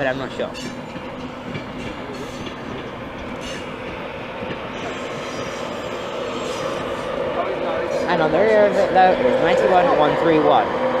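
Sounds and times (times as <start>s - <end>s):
train rail rumble: 0.0s - 11.0s
high wheel squeal: 0.2s - 11.0s.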